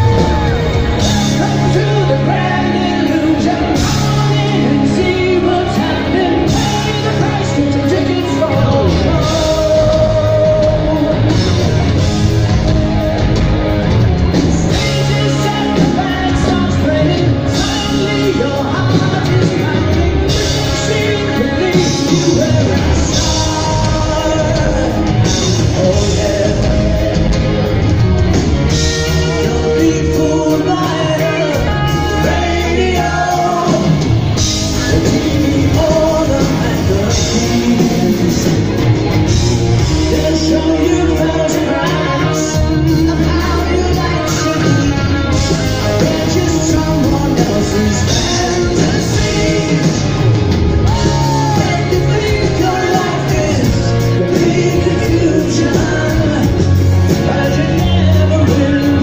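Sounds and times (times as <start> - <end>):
lead vocal singing: 0.0 - 59.0
live rock band playing: 0.0 - 59.0.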